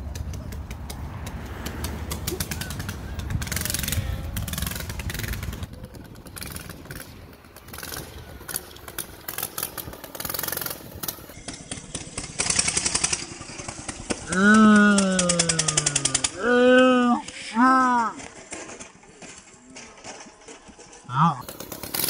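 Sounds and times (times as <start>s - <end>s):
mini bike engine throttling: 0.0s - 22.0s.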